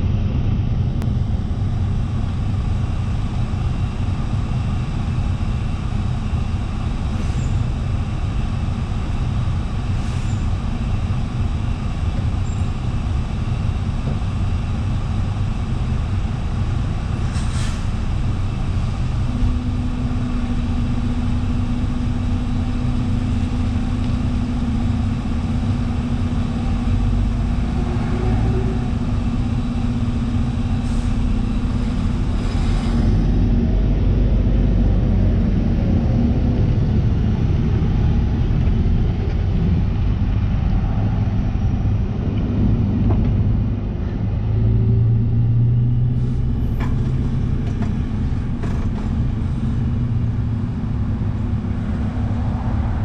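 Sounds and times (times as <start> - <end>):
bus diesel engine idling: 0.0 - 53.0
steady low hum: 0.0 - 53.0.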